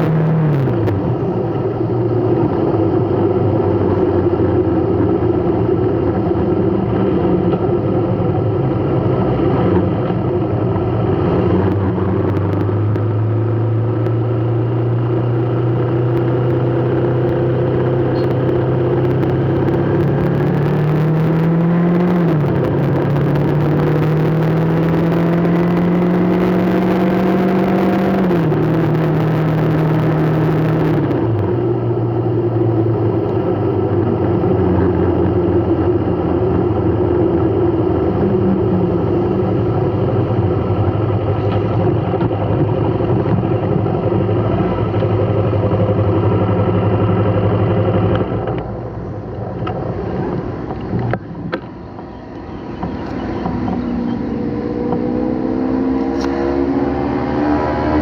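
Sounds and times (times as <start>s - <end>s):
vehicle engine accelerating through gears: 0.0s - 58.0s.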